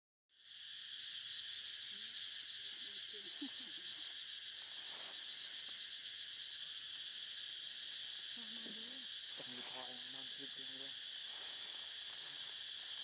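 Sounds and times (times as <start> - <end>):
insect chorus buzzing: 0.3 - 13.0.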